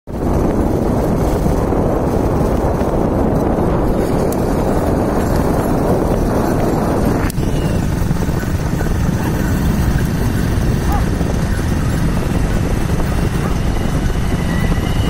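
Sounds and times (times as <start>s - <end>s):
wind buffeting microphone: 0.1s - 15.0s.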